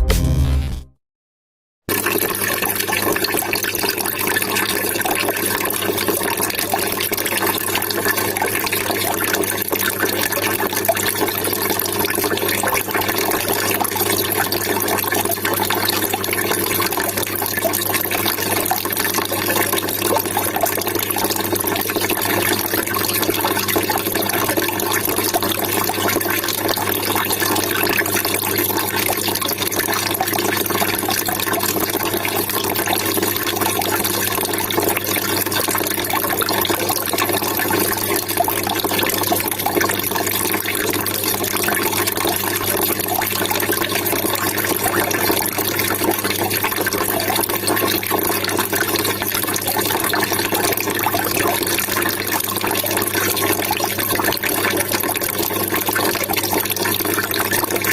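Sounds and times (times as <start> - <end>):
water trickling and splashing: 1.9 - 57.9.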